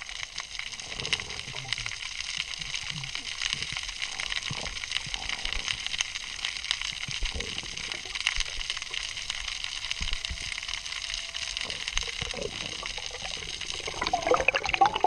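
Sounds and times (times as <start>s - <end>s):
snapping shrimp crackle: 0.0s - 15.0s.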